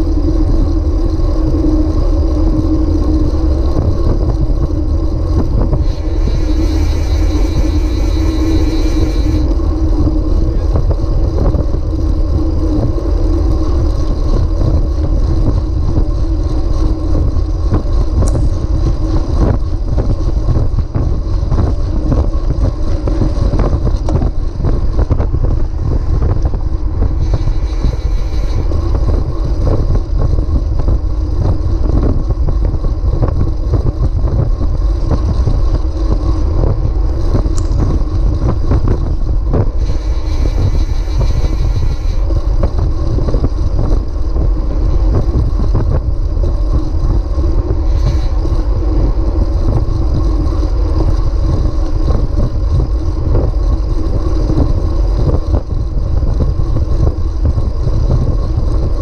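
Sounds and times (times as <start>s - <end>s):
bike tyre road noise: 0.0s - 59.0s
wind buffeting microphone: 0.0s - 59.0s.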